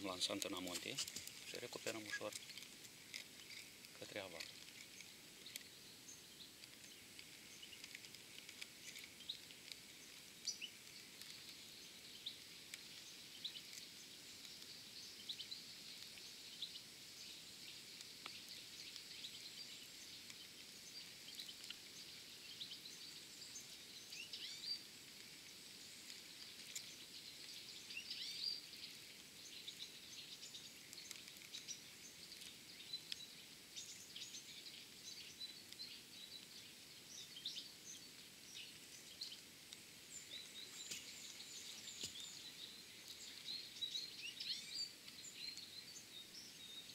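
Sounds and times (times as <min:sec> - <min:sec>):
faint bird chirps: 0:00.0 - 0:02.4, 0:08.8 - 0:46.9
low steady hiss: 0:00.0 - 0:46.9.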